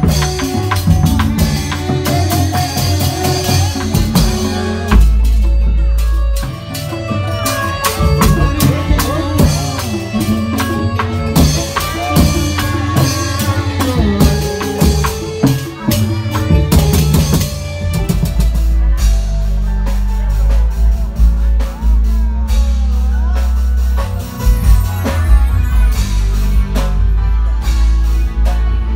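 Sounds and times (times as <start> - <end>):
drums: 0.0 - 28.9
heavy steady bass: 0.0 - 28.9
keyboard melody: 0.0 - 28.9.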